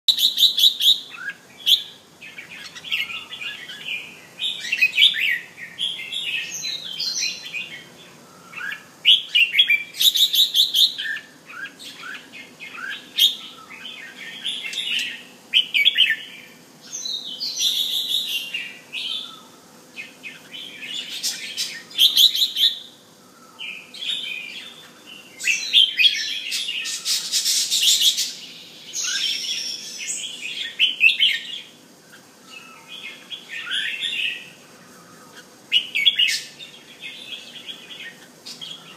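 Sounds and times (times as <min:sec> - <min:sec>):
bird singing chirpy phrases: 0:00.1 - 0:38.9.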